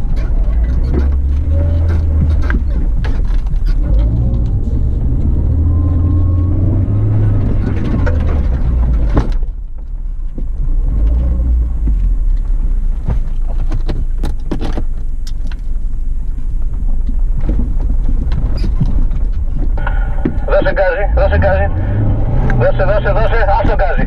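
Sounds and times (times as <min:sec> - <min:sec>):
knocks and rattles: 0:00.0 - 0:20.8
engine and road rumble: 0:00.0 - 0:24.0.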